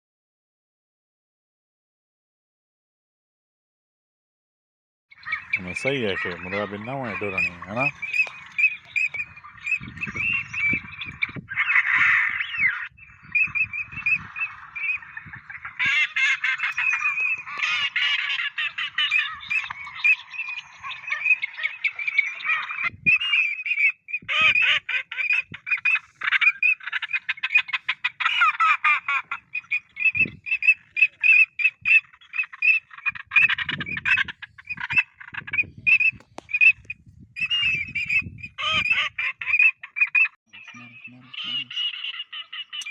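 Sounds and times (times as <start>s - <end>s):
waterfowl calling: 5.1s - 42.9s.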